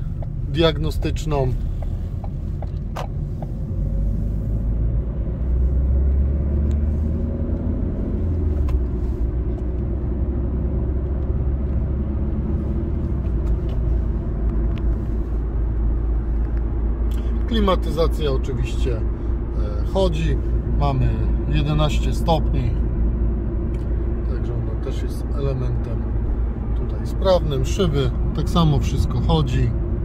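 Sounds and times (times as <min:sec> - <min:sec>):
car engine drone: 0:00.0 - 0:30.0
road and tyre rumble: 0:00.0 - 0:30.0.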